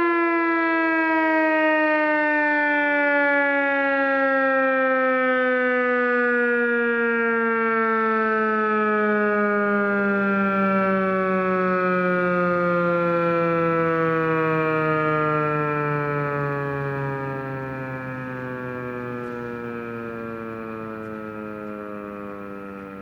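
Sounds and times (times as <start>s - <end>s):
rotating warning siren winding down: 0.0s - 23.0s.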